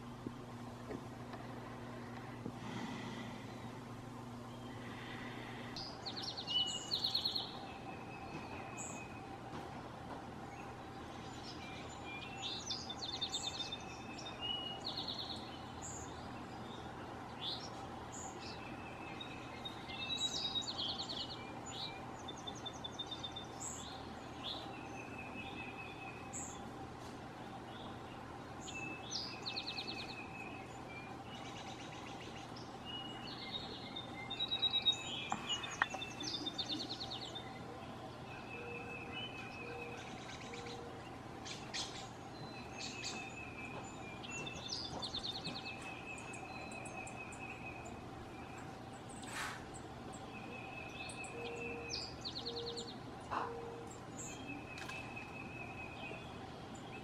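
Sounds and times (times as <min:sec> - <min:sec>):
faint steady hum: 0:00.0 - 0:57.0
small birds chirping and trilling: 0:00.0 - 0:57.0.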